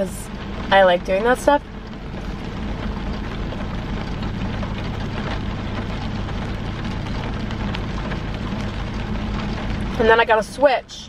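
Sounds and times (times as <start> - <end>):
low hum: 0.0 - 10.8
rain on car roof: 0.0 - 11.0.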